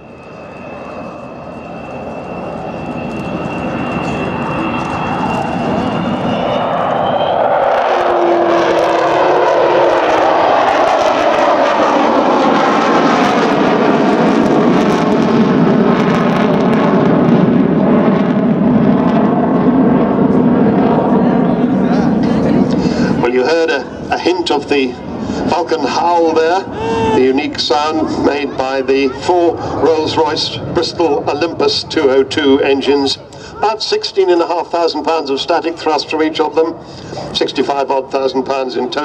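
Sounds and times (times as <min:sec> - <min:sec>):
high jet whine: 0:00.0 - 0:39.0
loud jet engine noise: 0:00.0 - 0:39.0.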